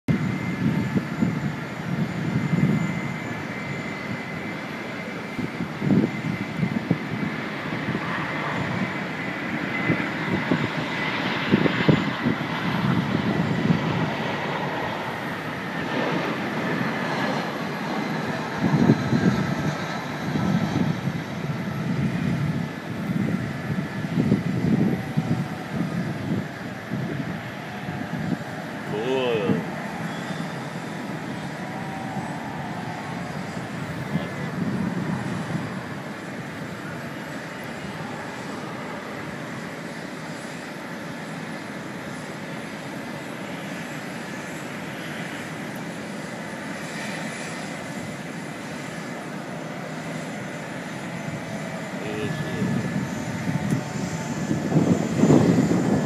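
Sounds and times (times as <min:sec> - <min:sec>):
jet engines roaring: 0:00.1 - 0:56.0
low rumbling gusts: 0:00.1 - 0:56.0.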